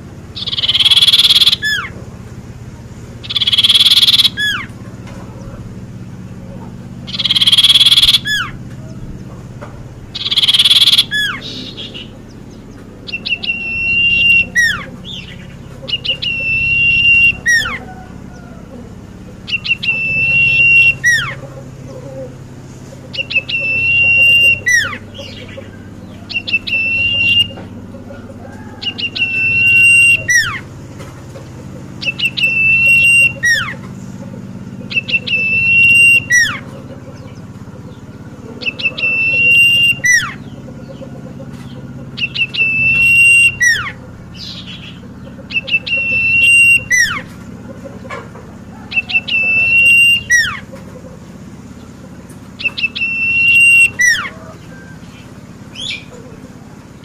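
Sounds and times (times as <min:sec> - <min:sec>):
bird singing trilling phrases: 0:00.0 - 0:57.0.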